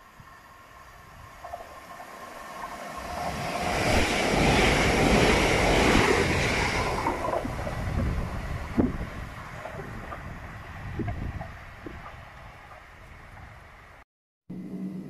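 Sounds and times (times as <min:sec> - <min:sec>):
train passing platform: 0:00.0 - 0:14.0.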